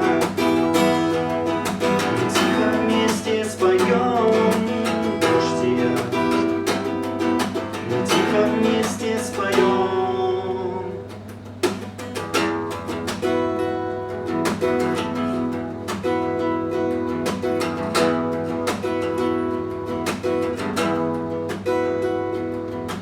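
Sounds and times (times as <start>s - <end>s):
guitar strumming chords: 0.0s - 23.0s.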